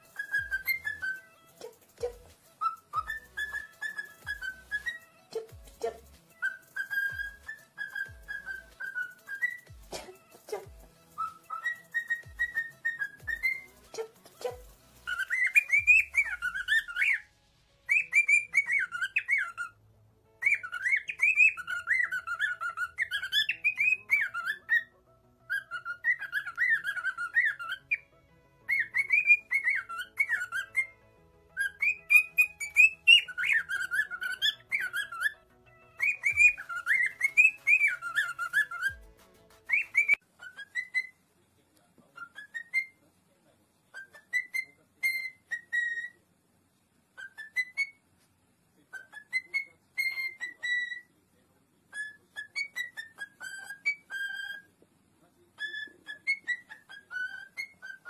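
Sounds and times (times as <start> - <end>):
cockatiel chirps: 0.0 - 19.8, 20.4 - 41.2, 42.0 - 43.1, 43.9 - 46.3, 47.1 - 48.1, 48.8 - 51.2, 51.9 - 54.8, 55.5 - 58.0
cockatiel whistling: 0.0 - 19.8, 20.4 - 41.2, 42.1 - 43.0, 43.9 - 46.2, 47.2 - 48.0, 48.9 - 51.1, 51.9 - 54.8, 55.6 - 58.0.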